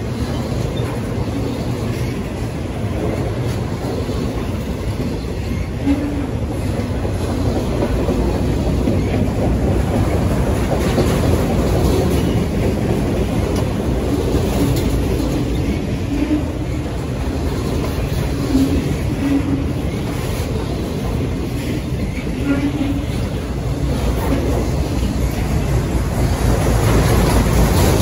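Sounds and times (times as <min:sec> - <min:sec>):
steel wheels rumbling on rail: 0:00.0 - 0:28.0
wheels clacking over rail joints: 0:00.0 - 0:28.0.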